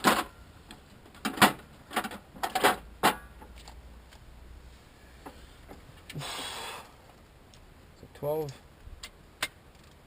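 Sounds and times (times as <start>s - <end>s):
low steady background hum: 0.0s - 10.0s.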